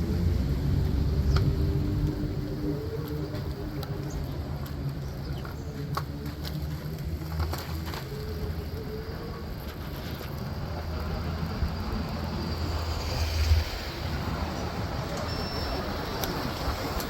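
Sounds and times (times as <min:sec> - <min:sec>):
engine hums: 0:00.0 - 0:17.0
street traffic rumble: 0:00.0 - 0:17.0.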